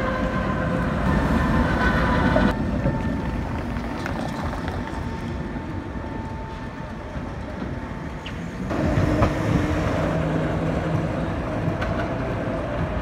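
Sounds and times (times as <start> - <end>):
tram passing with hum: 0.0 - 13.0
trams running on rails: 0.0 - 13.0
wheels clicking on track: 0.0 - 13.0.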